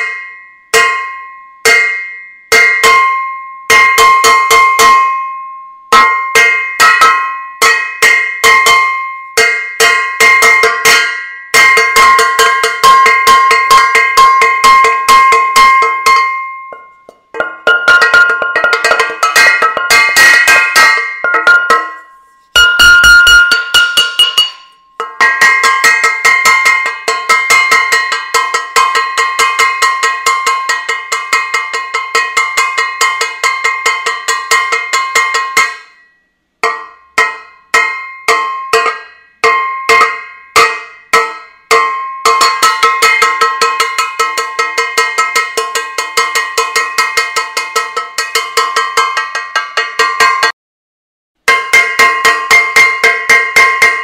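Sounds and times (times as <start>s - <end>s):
metal saucepan banged ringing: 0.0s - 36.0s, 36.6s - 50.5s, 51.5s - 54.0s.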